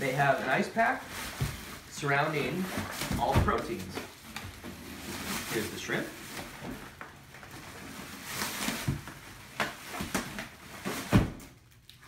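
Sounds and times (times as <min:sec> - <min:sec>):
cardboard and plastic packaging rustling: 0:00.0 - 0:12.0.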